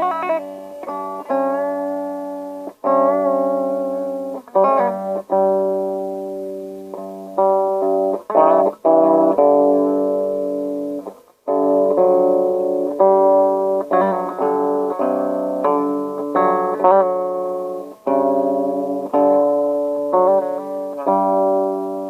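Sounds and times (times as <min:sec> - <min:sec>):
guitar playing slow melody: 0:00.0 - 0:22.0.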